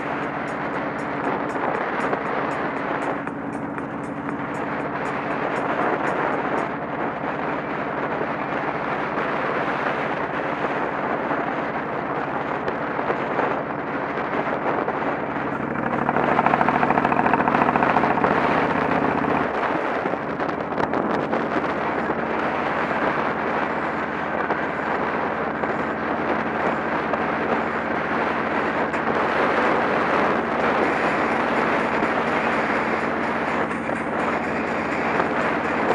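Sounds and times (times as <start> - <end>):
motorcycle engine cruising: 0.0 - 35.9
road noise: 0.0 - 35.9
wind rush on microphone: 0.0 - 35.9.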